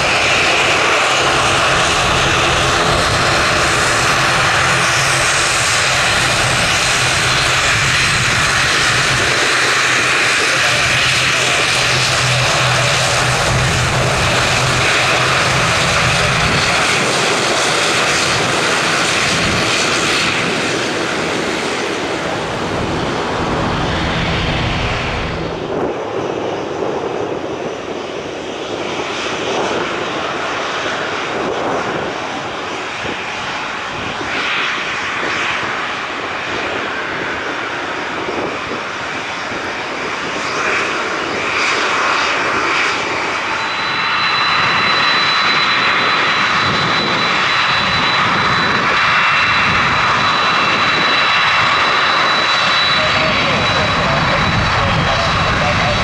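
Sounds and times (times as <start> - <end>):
duller jet engine noise: 0.0 - 56.0
jet engines running: 0.0 - 56.0.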